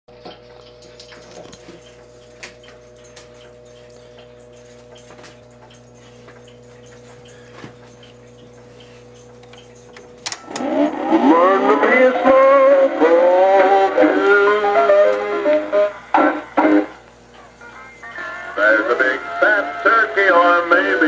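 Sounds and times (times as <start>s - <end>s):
low steady hum: 0.1s - 21.0s
faint steady whine: 0.2s - 21.0s.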